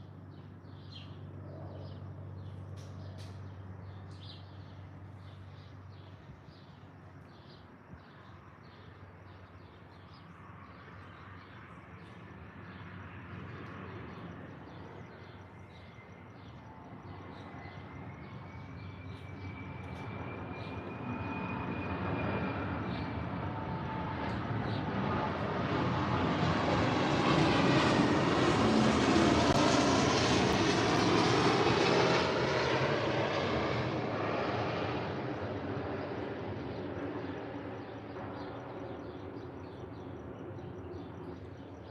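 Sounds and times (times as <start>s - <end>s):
airplane engine hum: 0.0s - 41.9s.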